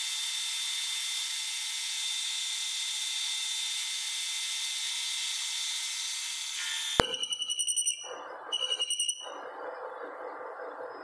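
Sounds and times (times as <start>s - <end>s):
high-pitched lathe whine: 0.0s - 9.9s.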